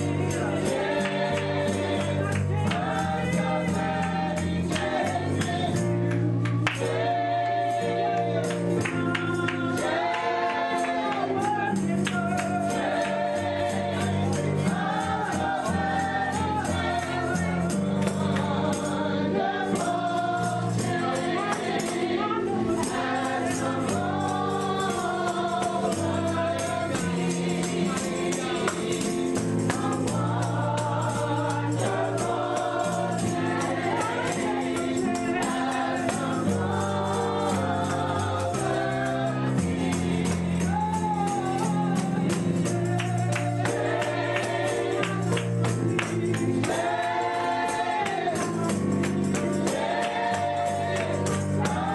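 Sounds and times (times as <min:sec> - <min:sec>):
choir singing gospel: 0:00.0 - 0:51.9
tambourine beat: 0:00.0 - 0:51.9.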